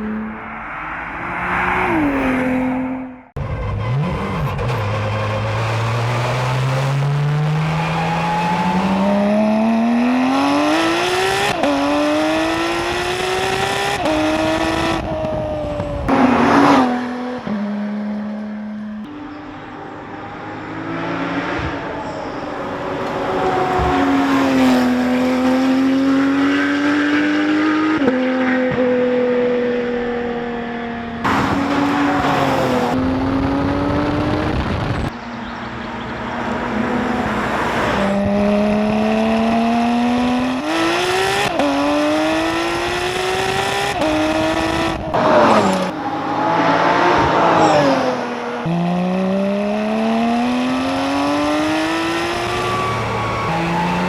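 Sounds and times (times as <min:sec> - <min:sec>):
supercar engine accelerating: 0:00.0 - 0:54.0.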